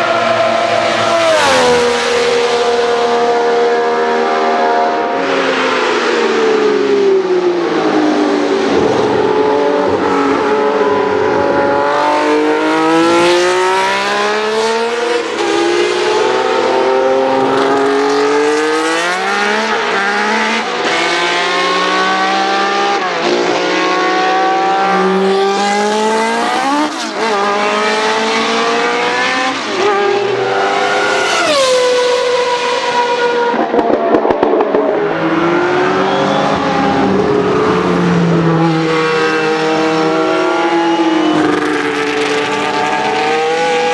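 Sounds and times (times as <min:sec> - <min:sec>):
racing car engines at high revs: 0:00.0 - 0:43.9.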